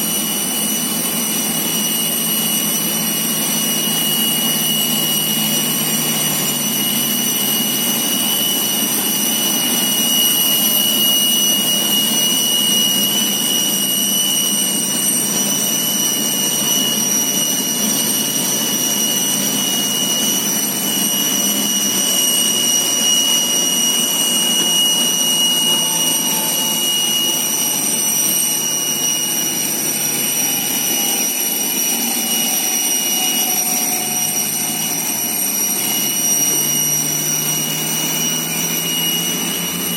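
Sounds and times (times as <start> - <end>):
high-pitched turbine whine: 0.0 - 39.9
jet turbine running: 0.0 - 39.9.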